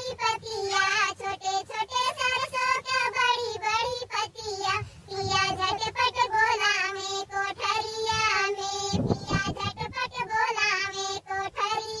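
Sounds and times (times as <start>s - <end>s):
pitched-up singing voice: 0.0s - 12.0s.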